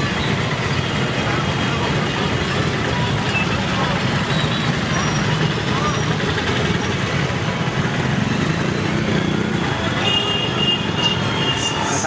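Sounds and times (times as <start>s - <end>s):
busy street traffic: 0.0s - 12.0s.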